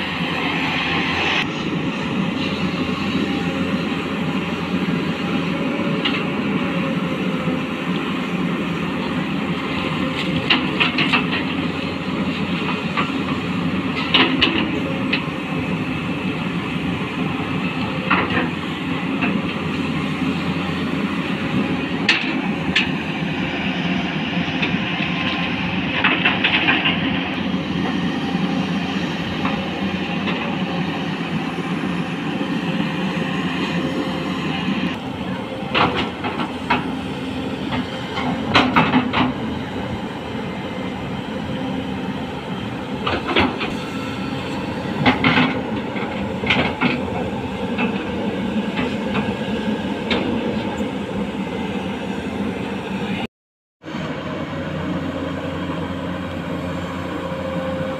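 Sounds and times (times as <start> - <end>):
excavator diesel engines running: 0.0 - 57.9.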